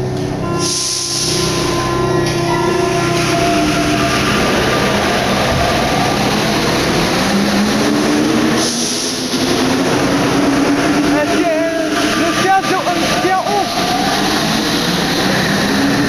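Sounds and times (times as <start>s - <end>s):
train motor whine: 0.0s - 16.0s
train running noise: 0.0s - 16.0s.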